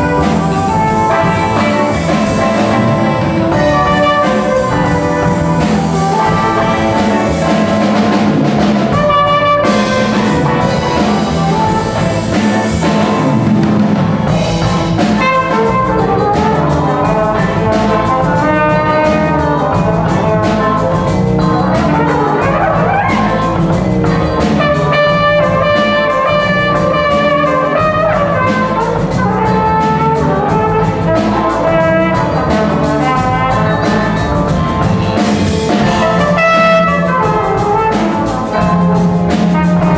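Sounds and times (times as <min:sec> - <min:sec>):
trumpet: 0:00.0 - 0:13.5, 0:14.6 - 0:39.9
bass: 0:00.0 - 0:39.9
drums: 0:00.0 - 0:39.9
guitar: 0:00.0 - 0:39.9
keyboard: 0:00.0 - 0:39.9
trombone: 0:00.0 - 0:39.9.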